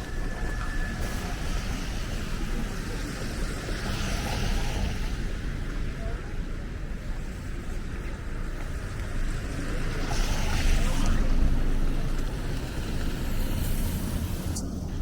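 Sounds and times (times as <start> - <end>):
street hiss: 0.0 - 7.4, 8.8 - 15.0
low street rumble: 0.0 - 15.0.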